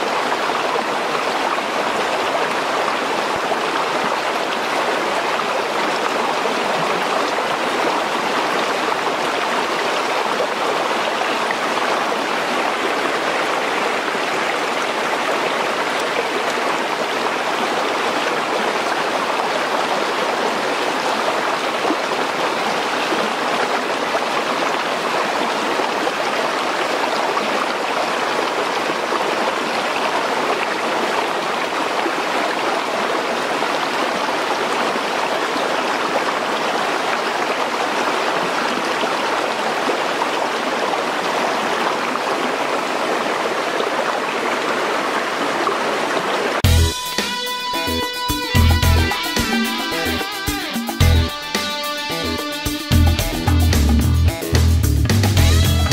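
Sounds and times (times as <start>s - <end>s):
stream flowing over rocks: 0.0s - 48.3s.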